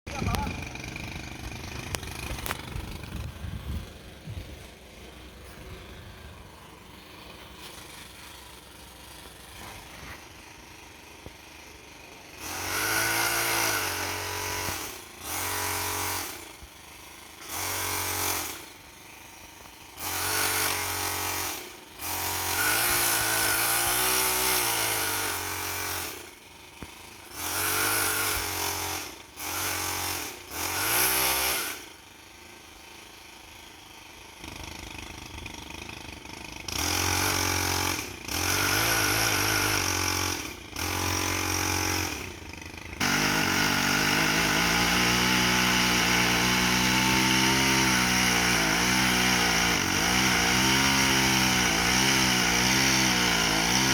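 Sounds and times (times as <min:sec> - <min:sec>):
chainsaw engine revving: 0:00.1 - 0:53.9.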